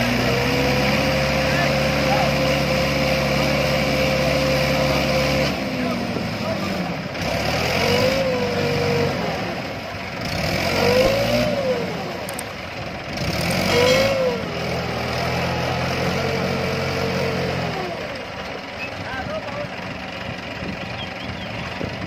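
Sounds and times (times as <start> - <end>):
diesel tractor engines revving: 0.0 - 22.0.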